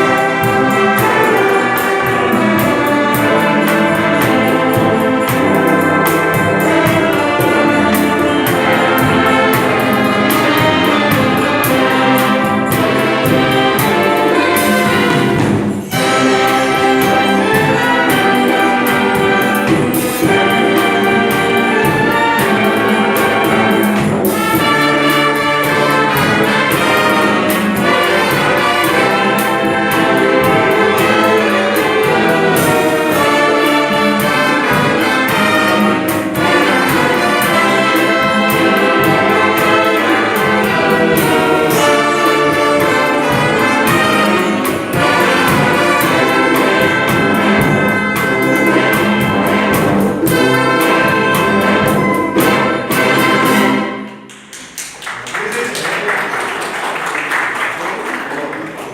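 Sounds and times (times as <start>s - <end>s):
brass band playing ballad: 0.0s - 54.5s
steady percussion: 0.0s - 58.9s.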